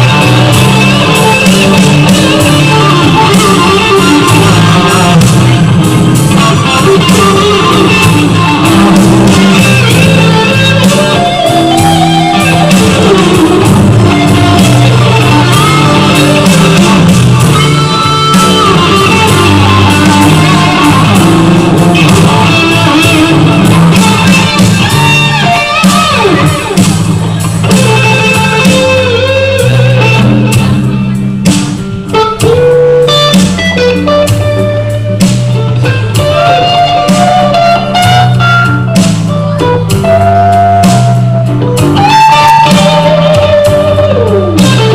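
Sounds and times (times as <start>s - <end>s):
blues-rock band playing: 0.0s - 44.9s
electric guitar lead lines: 0.0s - 44.9s
walking bass line: 0.0s - 44.9s.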